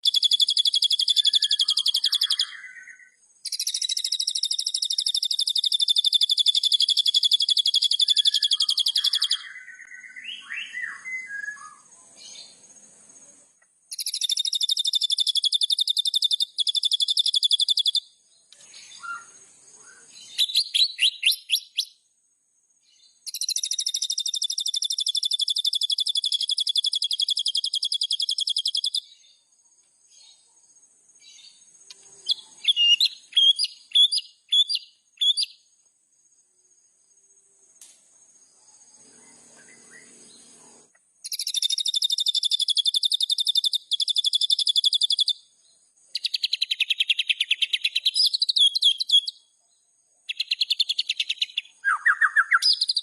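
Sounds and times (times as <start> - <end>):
bird singing trills and whistles: 0.0 - 12.6, 13.9 - 22.0, 22.9 - 29.4, 31.2 - 35.6, 39.0 - 45.5, 46.1 - 49.5, 50.3 - 53.0.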